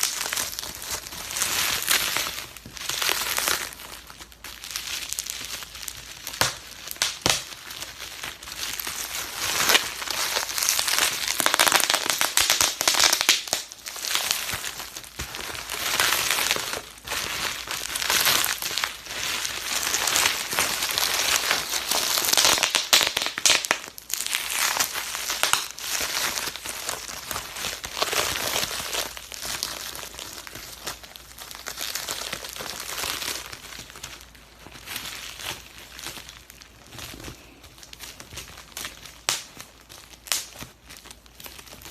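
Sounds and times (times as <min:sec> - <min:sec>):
bubble wrap popping: 0:00.0 - 0:41.9
plastic crinkling: 0:00.0 - 0:41.9.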